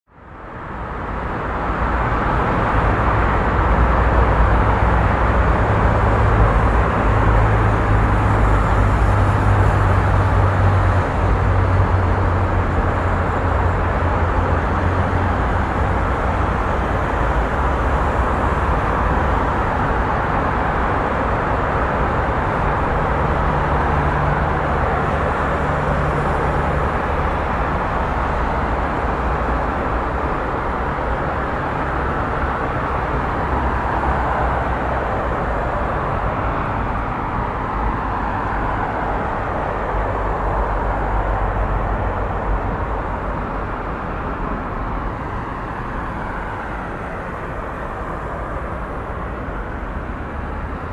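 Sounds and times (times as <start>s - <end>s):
traffic noise: 0.1s - 50.9s
deep engine drone: 0.8s - 50.9s.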